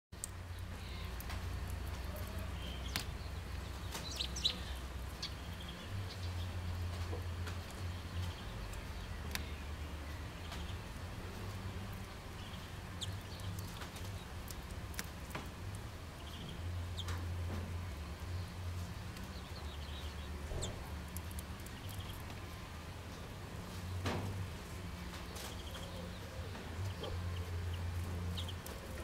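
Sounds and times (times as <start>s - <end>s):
songbird chirps: 0.2s - 29.0s.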